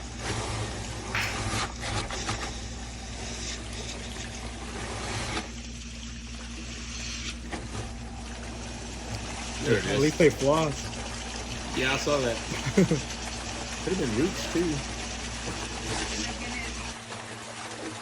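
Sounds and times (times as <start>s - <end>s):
low mechanical hum: 0.0s - 18.0s
wastewater rushing and splashing: 2.8s - 18.0s.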